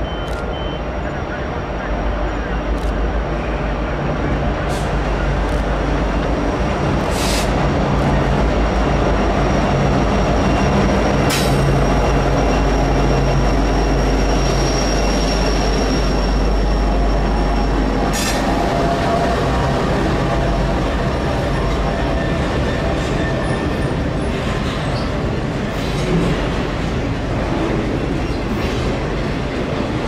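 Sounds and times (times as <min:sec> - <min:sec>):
diesel locomotive engines: 0:00.0 - 0:30.0
train wheels on rails: 0:00.0 - 0:30.0.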